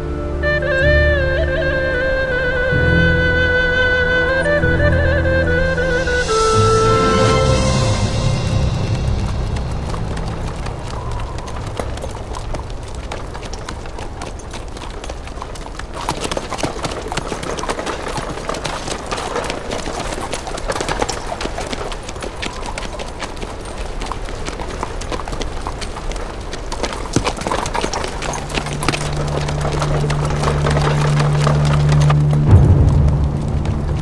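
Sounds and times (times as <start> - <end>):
horse hooves clip-clopping on dirt: 2.2 - 34.0.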